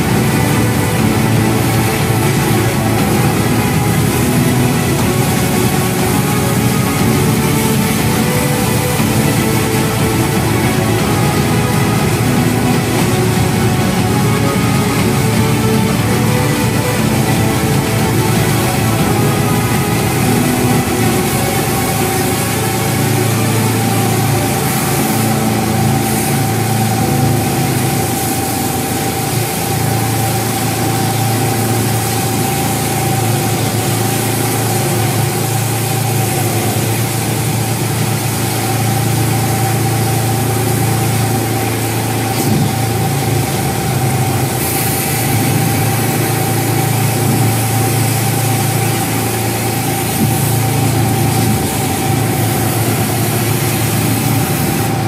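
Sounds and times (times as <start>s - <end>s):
continuous hiss: 0.0s - 55.0s
engine running steadily: 0.0s - 55.0s.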